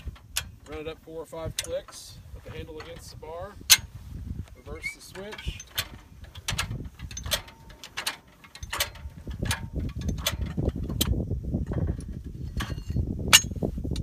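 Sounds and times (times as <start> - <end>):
jack clicking metallically: 0.0 - 14.0.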